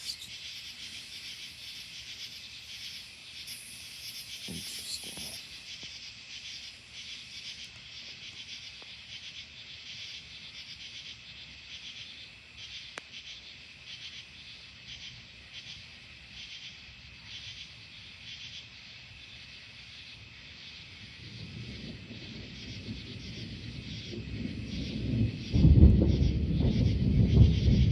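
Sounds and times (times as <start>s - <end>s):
crickets trilling: 0.0s - 27.9s.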